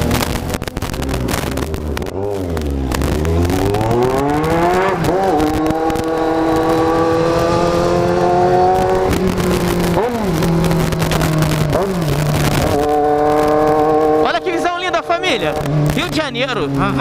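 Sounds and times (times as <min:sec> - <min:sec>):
motorcycle engine downshifting: 0:00.0 - 0:17.0.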